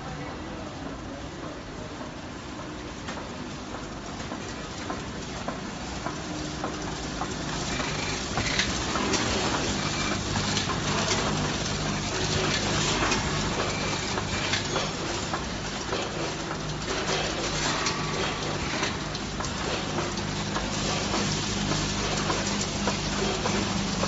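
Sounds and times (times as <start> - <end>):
packing machine humming: 2.5 - 24.0
machine clattering and clicking: 2.8 - 24.0.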